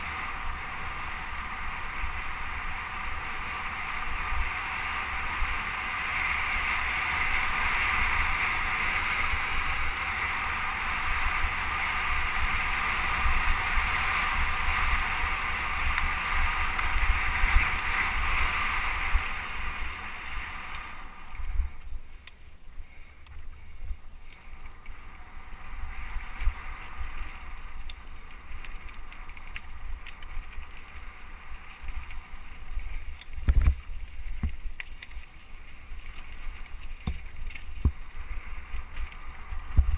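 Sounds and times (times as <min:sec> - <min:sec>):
bike tyre roar on gravel: 0:00.0 - 0:39.9
wind noise on microphone: 0:04.0 - 0:22.2, 0:23.3 - 0:34.8, 0:35.9 - 0:39.9.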